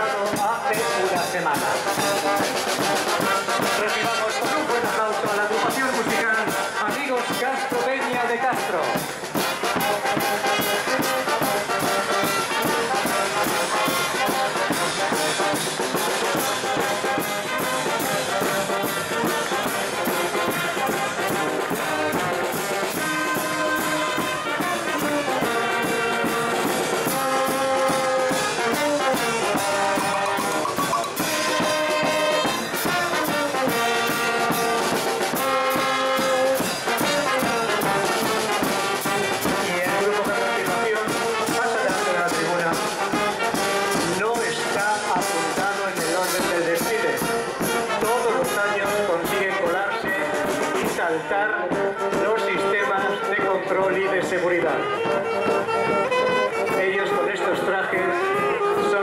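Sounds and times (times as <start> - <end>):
brass band playing: 0.0 - 59.0
drum beat: 0.0 - 59.0.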